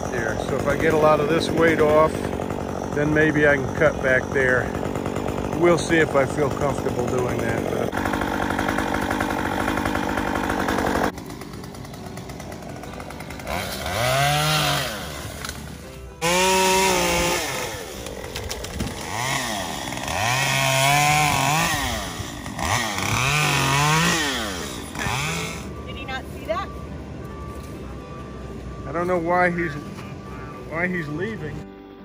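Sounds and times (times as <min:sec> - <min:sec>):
chainsaw revving while cutting: 0:00.0 - 0:25.8.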